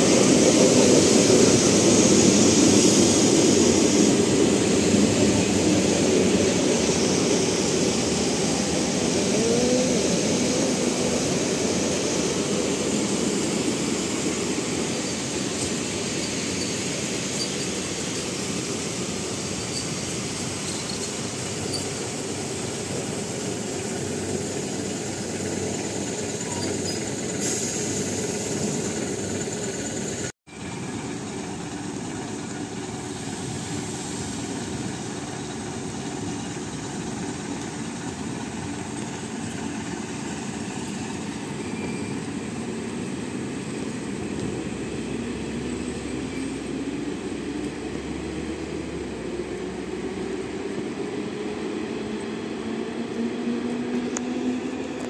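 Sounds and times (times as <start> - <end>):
train wheels and motors rumbling: 0.0 - 55.0.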